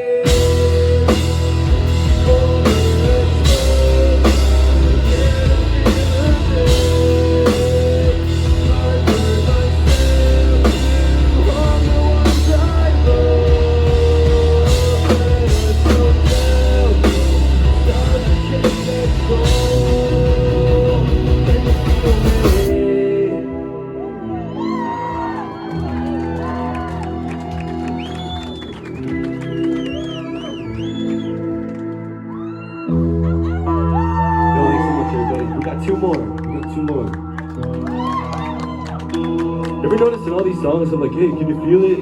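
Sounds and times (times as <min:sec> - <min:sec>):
live rock band playing: 0:00.0 - 0:23.6, 0:24.6 - 0:42.0.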